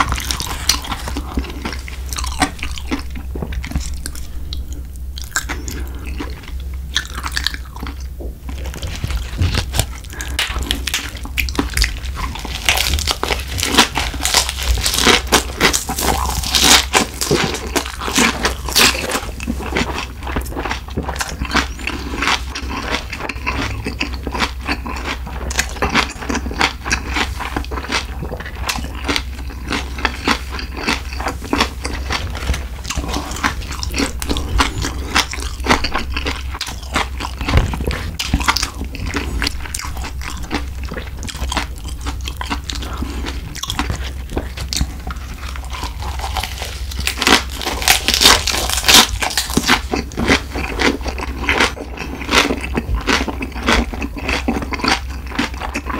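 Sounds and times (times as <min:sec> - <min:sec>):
crisp crunches: 0:00.0 - 0:55.9
wet chewing mouth sounds: 0:00.0 - 0:55.9.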